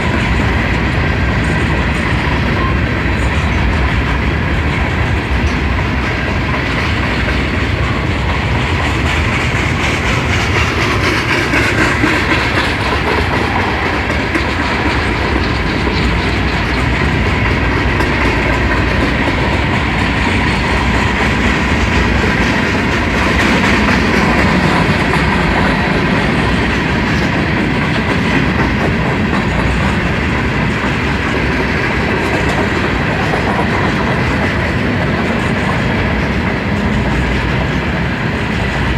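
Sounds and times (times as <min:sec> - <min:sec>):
freight train rolling past: 0:00.0 - 0:38.9
wheels clacking on rails: 0:00.0 - 0:38.9.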